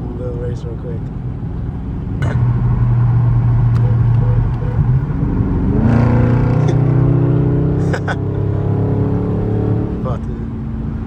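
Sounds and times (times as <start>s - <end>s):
car exhaust drone accelerating: 1.2s - 11.0s.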